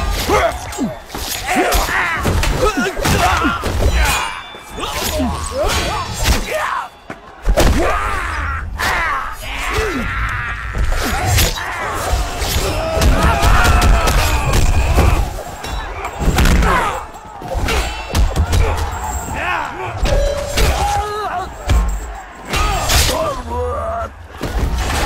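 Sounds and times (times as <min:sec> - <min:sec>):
weapons and shields clashing: 0:00.0 - 0:08.0, 0:10.8 - 0:23.4
men yelling and grunting: 0:00.0 - 0:25.0.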